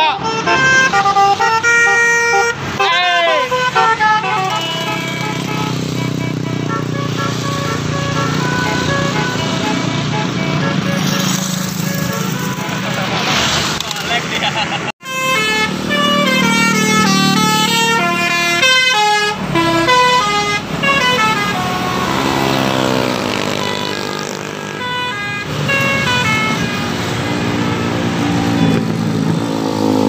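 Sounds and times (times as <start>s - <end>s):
musical air horn tune: 0.0s - 13.0s, 15.0s - 28.9s
passing buses and motorcycles: 0.0s - 30.0s.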